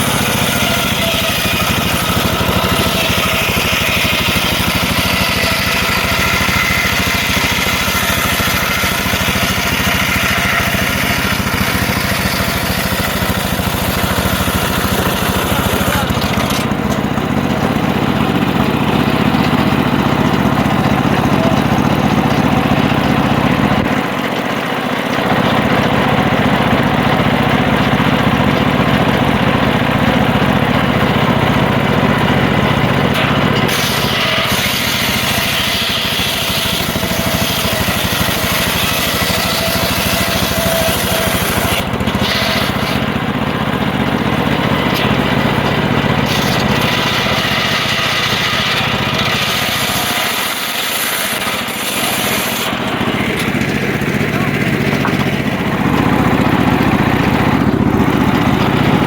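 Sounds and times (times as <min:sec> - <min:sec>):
circular sawmill sawing log: 0:00.0 - 0:59.0.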